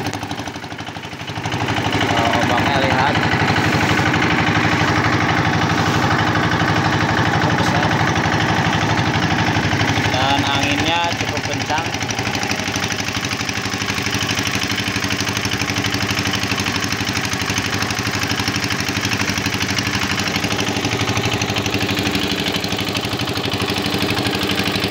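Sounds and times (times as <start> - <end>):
boat engine running: 0.0 - 24.9.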